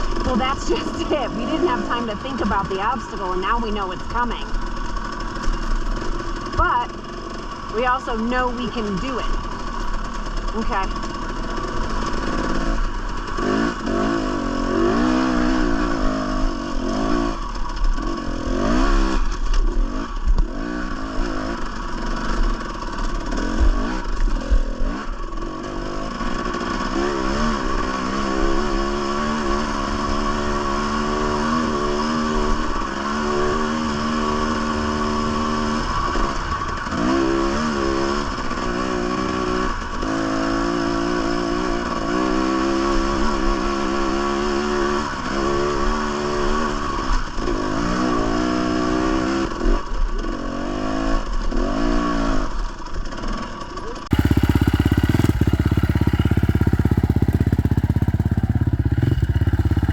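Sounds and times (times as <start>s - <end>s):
dirt bike engine revving: 0.0s - 49.4s, 54.1s - 59.9s.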